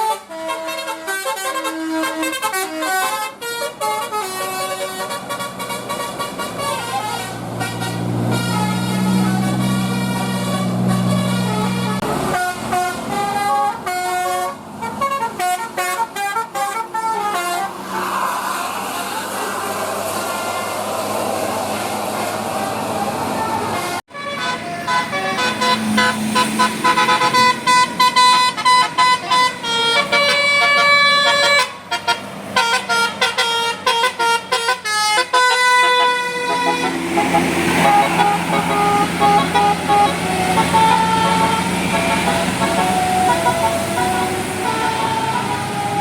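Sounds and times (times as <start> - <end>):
multi-tone musical air horn: 0.0 - 46.0.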